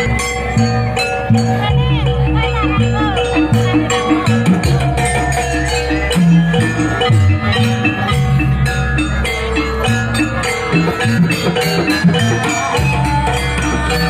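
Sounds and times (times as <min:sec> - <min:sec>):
drum strokes: 0:00.0 - 0:14.0
percussion ensemble music: 0:00.0 - 0:14.0.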